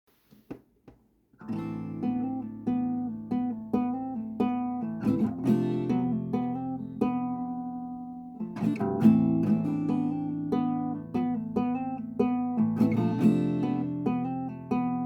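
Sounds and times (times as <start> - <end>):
acoustic guitar strummed chords: 1.4 - 15.0.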